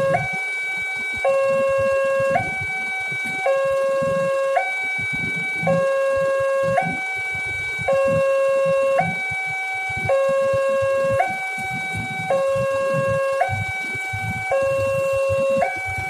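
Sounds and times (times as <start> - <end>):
level-crossing two-tone alarm: 0.0 - 16.0
vehicle engines idling: 0.0 - 16.0.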